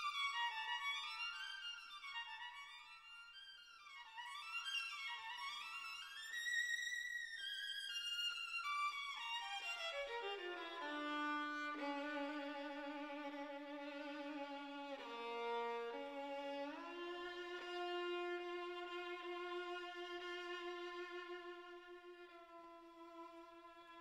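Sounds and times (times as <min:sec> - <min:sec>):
slow violin melody: 0:00.0 - 0:24.0.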